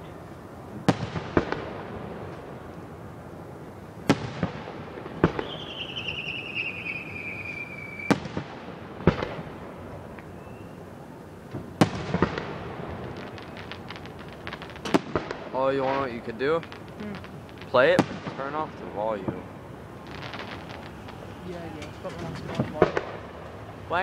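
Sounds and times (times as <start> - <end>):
firework crackling: 0.0 - 24.0
fireworks bangs: 0.0 - 24.0
whistling firework: 4.0 - 11.0, 11.6 - 24.0.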